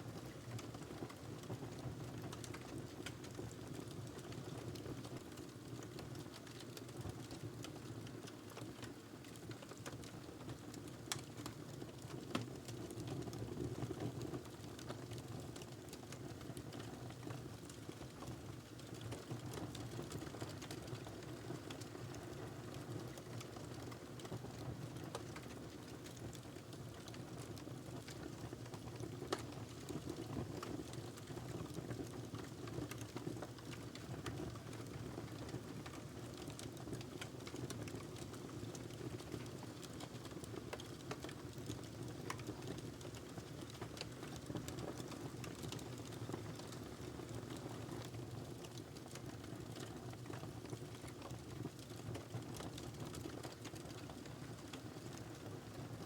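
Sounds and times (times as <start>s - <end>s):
fire crackles and pops: 0.2s - 55.6s.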